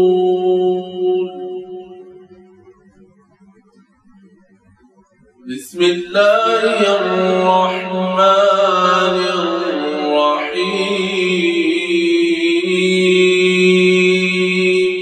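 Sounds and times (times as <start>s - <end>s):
person chanting melodically: 0.0s - 2.7s, 5.4s - 15.0s.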